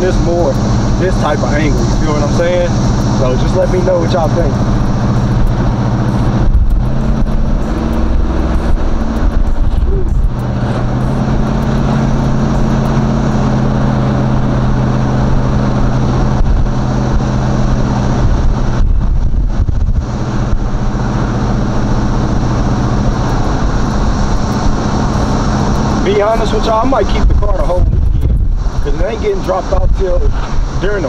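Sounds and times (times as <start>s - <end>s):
car engine drone: 0.0s - 31.0s
road noise: 0.0s - 31.0s.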